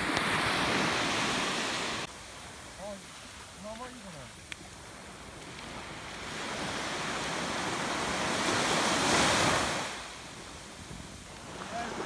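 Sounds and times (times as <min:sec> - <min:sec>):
wave washing up a beach: 0:00.0 - 0:12.0.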